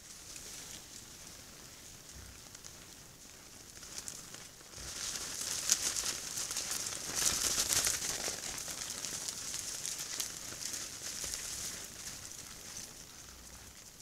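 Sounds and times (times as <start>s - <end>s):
boars crunching through snow: 0.0s - 14.0s.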